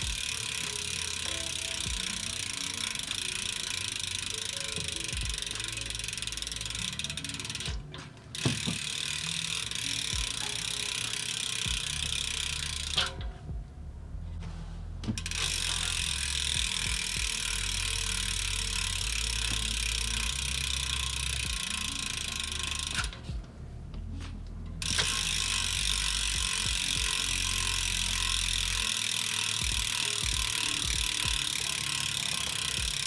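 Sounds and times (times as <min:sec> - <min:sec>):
bicycle freehub clicking: 0:00.0 - 0:13.6, 0:15.0 - 0:33.0.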